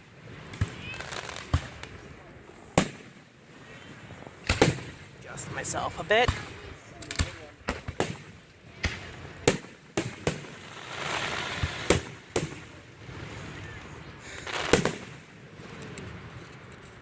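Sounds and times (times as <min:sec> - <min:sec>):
fireworks bangs: 0:00.0 - 0:16.4
fireworks crackling: 0:00.0 - 0:17.0.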